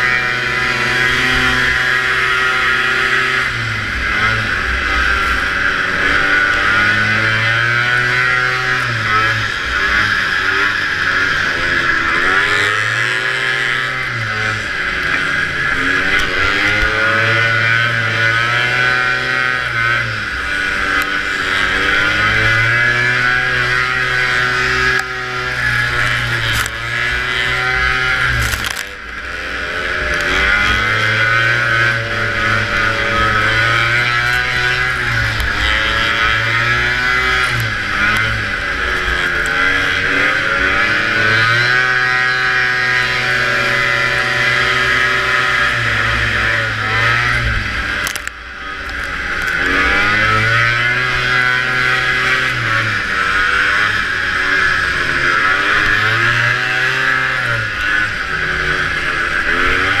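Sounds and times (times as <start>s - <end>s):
snowmobile engine revving: 0.0s - 60.0s.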